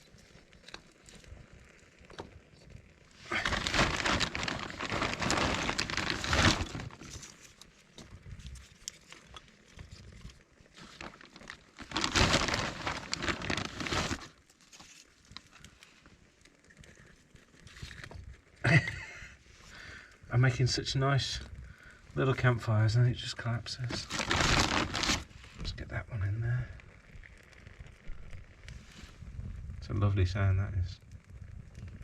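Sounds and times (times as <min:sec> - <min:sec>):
twigs rustling and crackling: 0:00.0 - 0:32.0.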